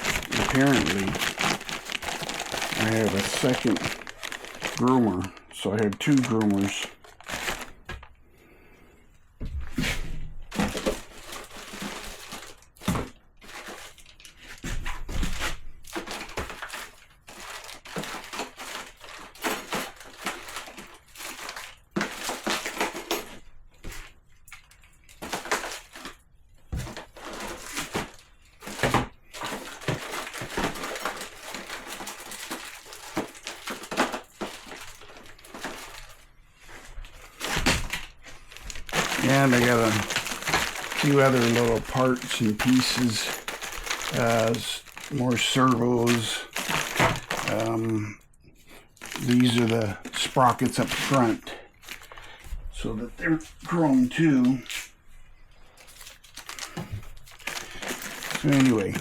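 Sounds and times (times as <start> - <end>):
plastic parts being rummaged: 0.0 - 8.2, 9.7 - 59.0.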